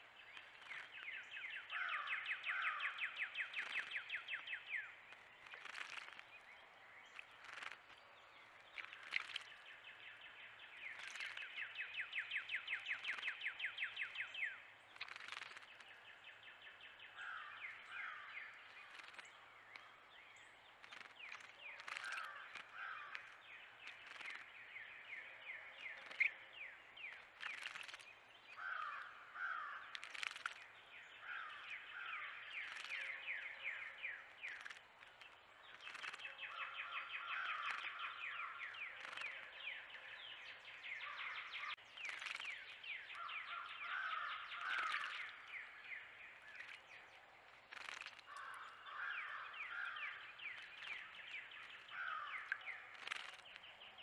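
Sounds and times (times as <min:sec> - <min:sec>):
bird splashing in bird bath: 0:00.3 - 0:01.1, 0:01.9 - 0:06.4, 0:07.1 - 0:24.8, 0:25.8 - 0:39.4, 0:41.7 - 0:53.6
wrens calling: 0:07.1 - 0:20.1, 0:20.7 - 0:40.3, 0:40.9 - 0:54.0.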